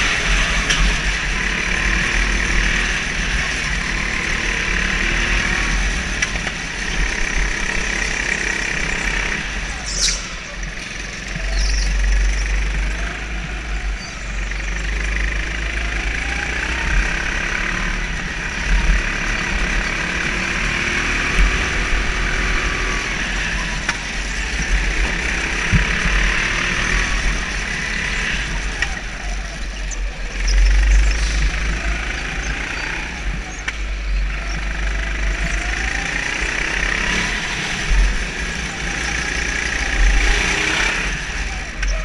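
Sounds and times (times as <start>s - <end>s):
go-kart engine running: 0.0s - 42.0s.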